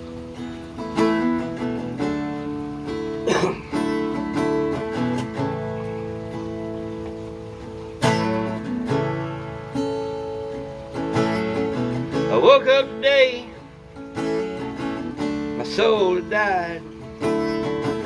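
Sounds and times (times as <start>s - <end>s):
stringed instrument strummed: 0.0s - 18.0s.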